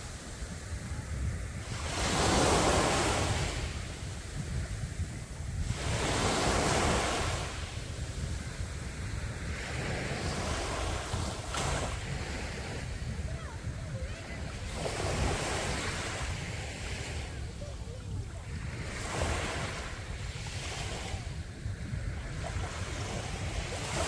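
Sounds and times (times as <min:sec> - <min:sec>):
sea waves breaking on beach: 0:00.0 - 0:24.0
wind rumble on microphone: 0:00.0 - 0:24.0.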